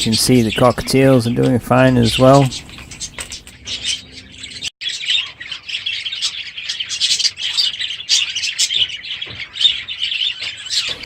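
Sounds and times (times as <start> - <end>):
parrots chattering and chirping: 0.0 - 11.0.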